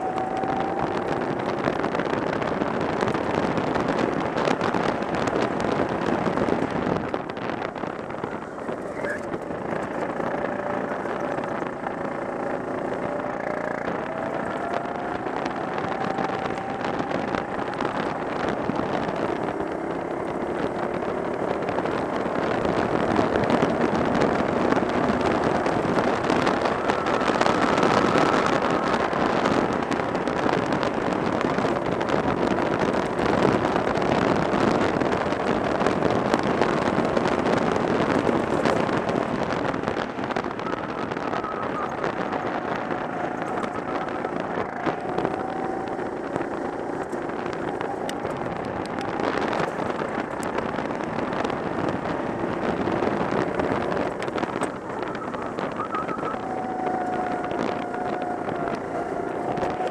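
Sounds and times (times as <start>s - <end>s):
go-kart engine running: 0.0s - 59.9s
wind noise on microphone: 0.0s - 59.9s.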